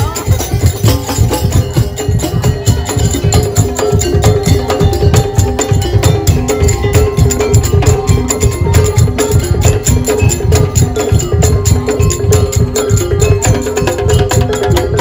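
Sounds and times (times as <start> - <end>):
held melodic line: 0.0 - 15.0.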